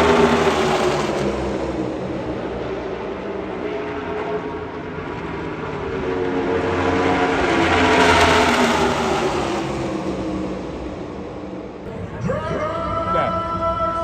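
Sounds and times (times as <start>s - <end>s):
race car engines passing: 0.0s - 14.0s.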